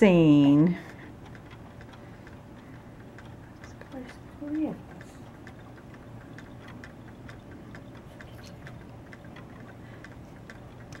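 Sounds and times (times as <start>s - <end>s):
toys ticking: 0.1s - 11.0s.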